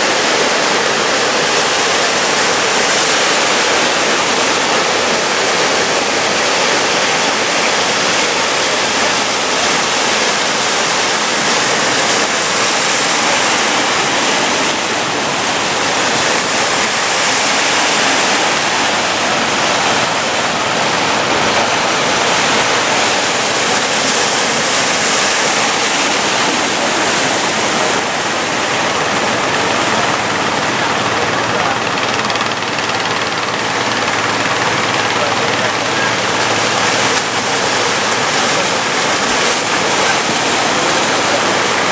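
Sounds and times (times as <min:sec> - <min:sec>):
ocean waves breaking: 0:00.0 - 0:41.9.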